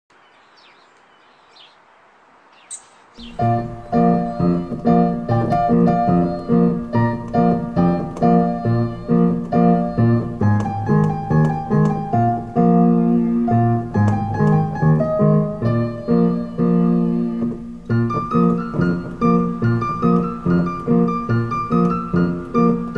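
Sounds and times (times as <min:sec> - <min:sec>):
piano repeated notes and chords: 0:03.2 - 0:22.9.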